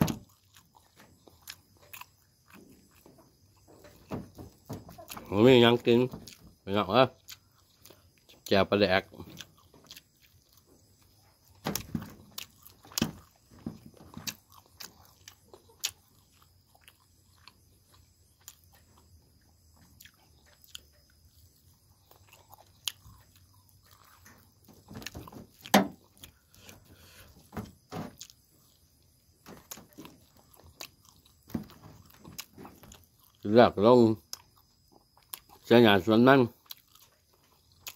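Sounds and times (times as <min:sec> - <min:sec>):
man chewing sticky rice: 0:00.0 - 0:37.9.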